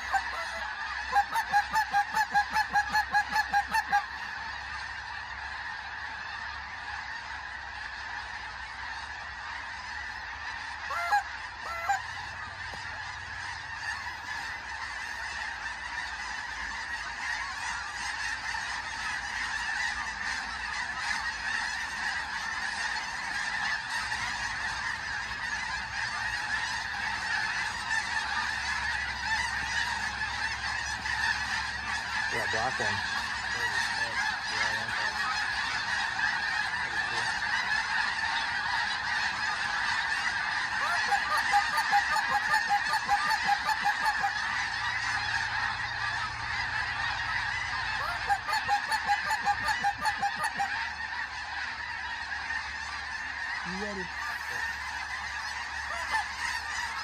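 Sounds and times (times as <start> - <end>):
flock of geese honking: 0.0 - 57.0.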